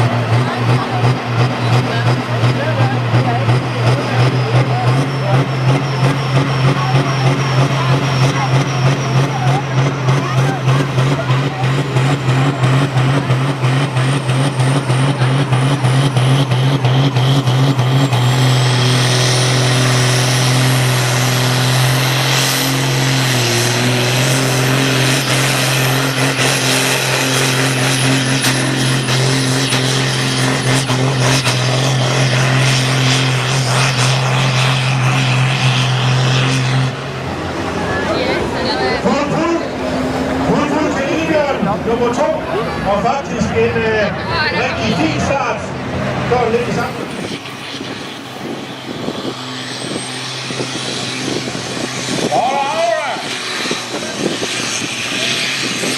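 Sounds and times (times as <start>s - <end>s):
diesel tractor engine under load: 0.0s - 55.9s
high turbo whine: 0.0s - 55.9s.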